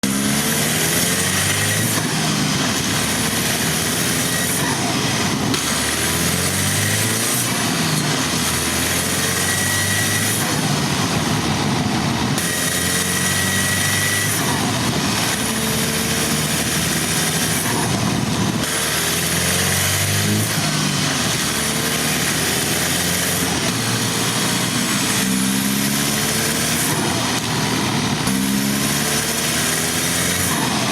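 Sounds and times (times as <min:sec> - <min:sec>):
turbocharged car engine accelerating: 0:00.0 - 0:30.9.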